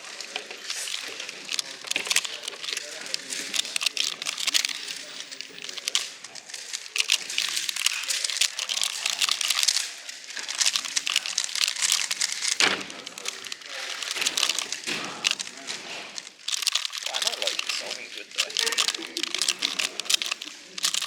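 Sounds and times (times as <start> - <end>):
murmur of voices: 0.0 - 21.0
puzzle cubes clicking and clacking: 0.0 - 21.0.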